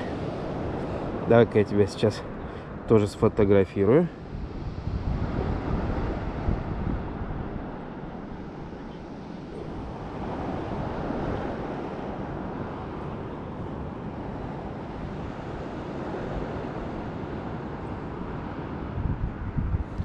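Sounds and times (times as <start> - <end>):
waves washing on shore: 0.0 - 20.0.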